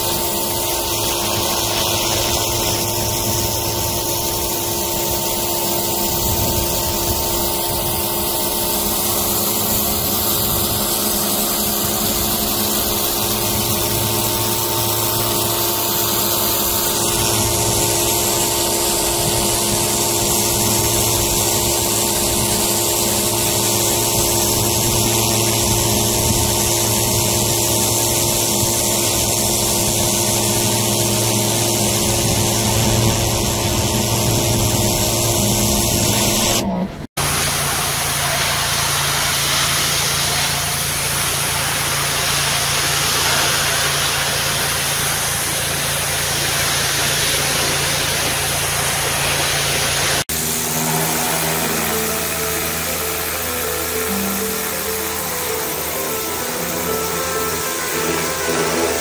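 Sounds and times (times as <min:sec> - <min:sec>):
high-pressure water spray hissing: 0:00.0 - 0:59.0
motor hum: 0:00.0 - 0:59.0.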